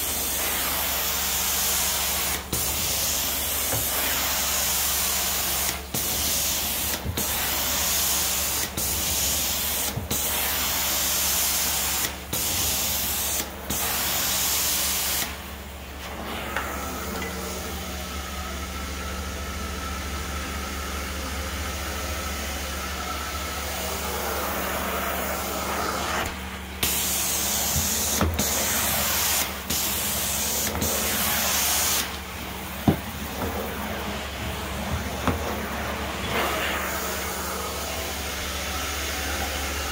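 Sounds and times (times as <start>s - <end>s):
carpet extractor spraying and vacuuming: 0.0s - 39.9s.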